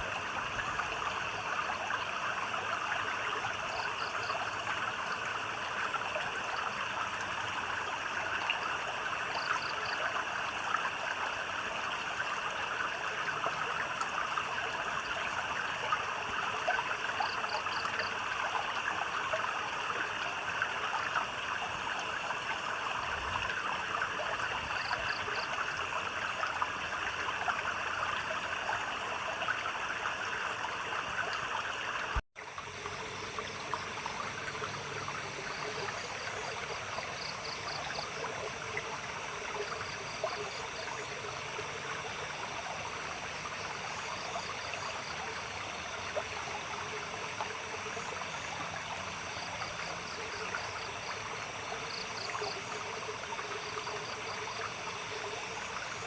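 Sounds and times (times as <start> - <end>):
high buzz of night insects: 0.0 - 56.0
water trickling over stones: 0.0 - 56.0.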